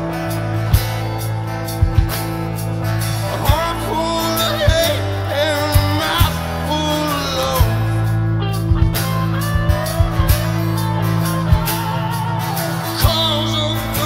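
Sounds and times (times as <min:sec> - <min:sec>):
drums with kick-drum thuds: 0:00.0 - 0:14.0
organ-style keyboard: 0:00.0 - 0:14.0
strummed acoustic guitar: 0:00.0 - 0:14.0.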